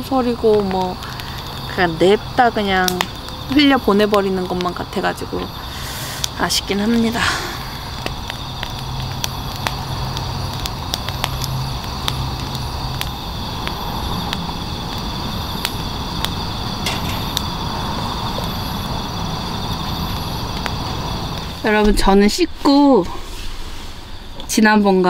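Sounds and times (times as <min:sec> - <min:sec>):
campfire crackling and popping: 0:00.0 - 0:25.0
night insects chirring: 0:00.0 - 0:25.0.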